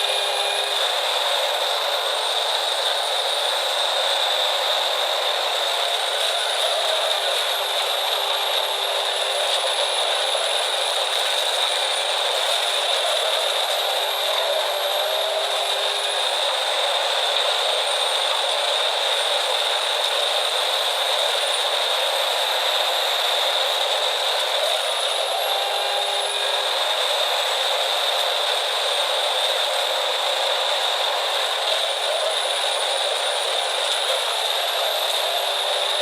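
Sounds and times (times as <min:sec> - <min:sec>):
faint rising and falling whine: 0:00.0 - 0:36.0
steady high whine: 0:00.0 - 0:36.0.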